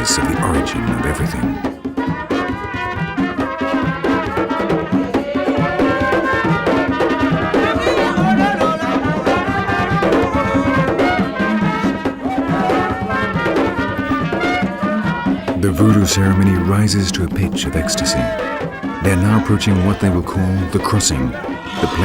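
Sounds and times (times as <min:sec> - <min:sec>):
brass horns playing: 0:00.0 - 0:01.7, 0:02.8 - 0:22.0
fast steady drumming: 0:00.0 - 0:22.0.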